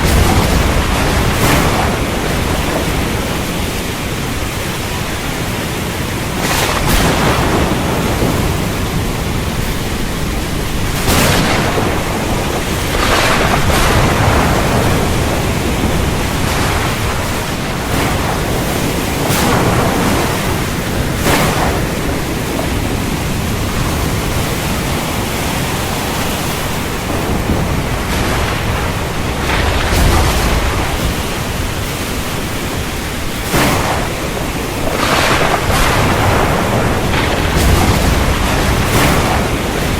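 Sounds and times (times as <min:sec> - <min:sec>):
heavy rain: 0:00.0 - 0:39.9
low thunder rumble: 0:00.0 - 0:39.9
thunder cracks: 0:00.0 - 0:39.9.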